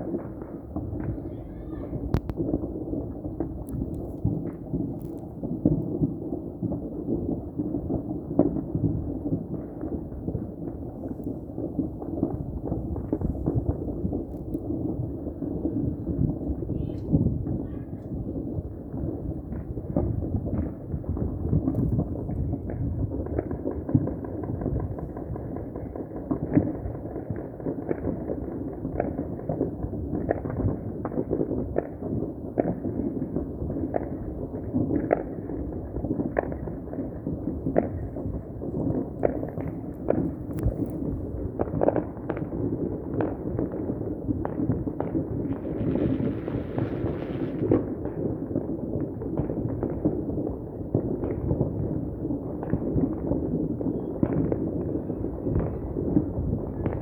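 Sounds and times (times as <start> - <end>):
fireworks and firecrackers popping: 0.0 - 57.0.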